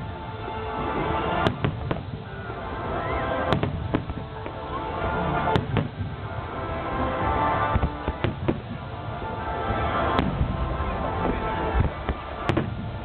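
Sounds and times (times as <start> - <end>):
music with sustained tones: 0.0 - 13.0.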